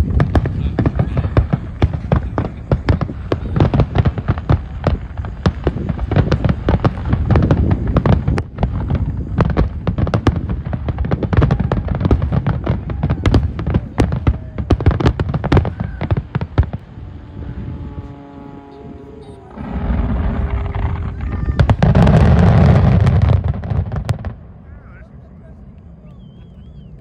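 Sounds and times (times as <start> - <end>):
low firework booms: 0.0 - 24.7.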